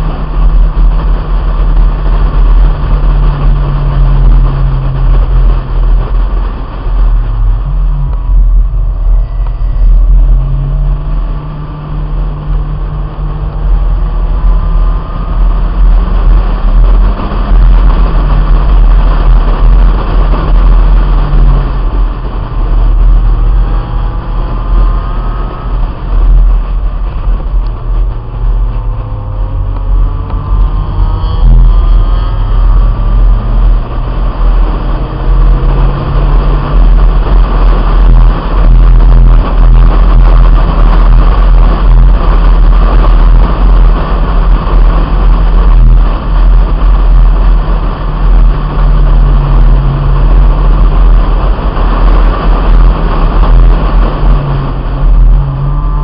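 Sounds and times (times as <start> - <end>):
car engine running: 0.0 - 56.0
wind rushing over microphone: 0.0 - 56.0.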